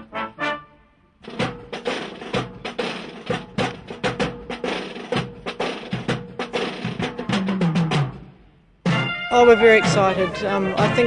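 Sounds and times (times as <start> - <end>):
marching band drums: 1.2 - 11.0.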